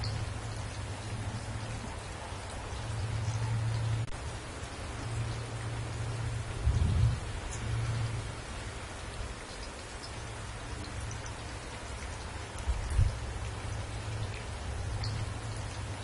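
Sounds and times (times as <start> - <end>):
heavy rain on foliage: 0.0 - 16.0.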